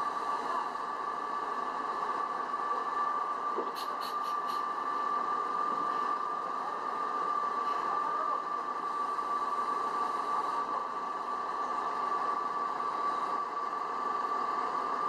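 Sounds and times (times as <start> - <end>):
high mechanical whine: 0.0 - 15.0.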